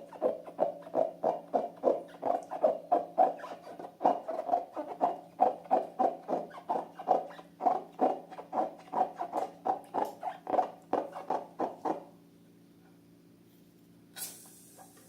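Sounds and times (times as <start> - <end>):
rubber balloons squeaking: 0.0 - 12.1.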